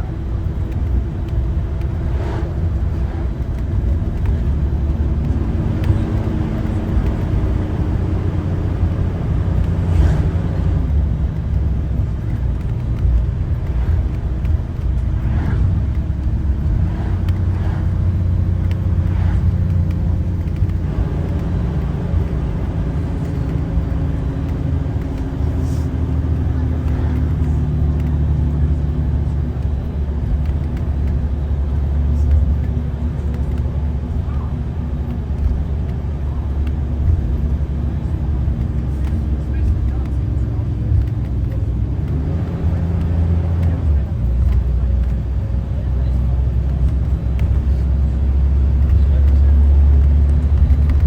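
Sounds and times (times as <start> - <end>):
bus body rattles and knocks: 0.0 - 51.0
bus engine rumbling: 0.0 - 51.0.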